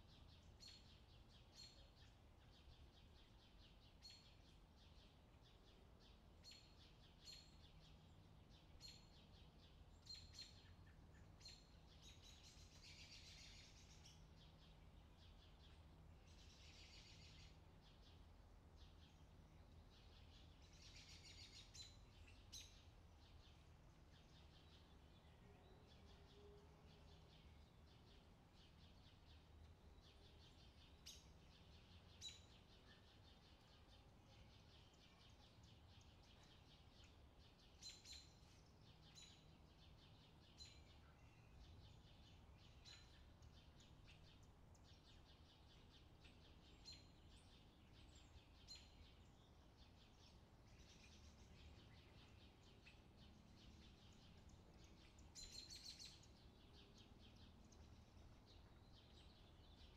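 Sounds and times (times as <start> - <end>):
bird chirping: 0.0 - 59.9
faint low hum: 0.0 - 59.9.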